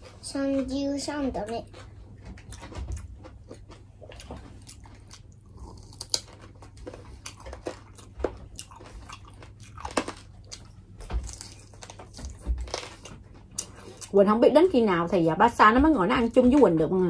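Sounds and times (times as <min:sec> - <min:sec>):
biting and chewing ribs: 0:00.1 - 0:14.2.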